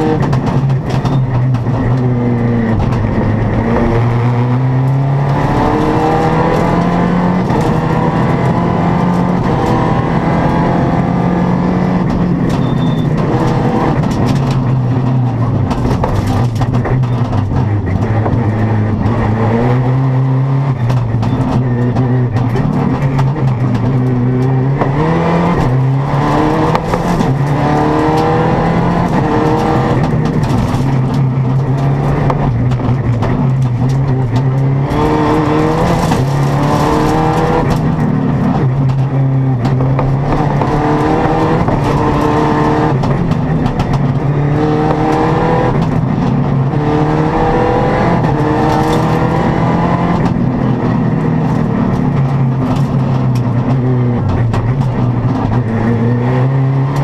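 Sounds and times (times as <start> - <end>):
knocks and rattles: 0.0 - 57.0
rally car engine revving: 0.0 - 57.0.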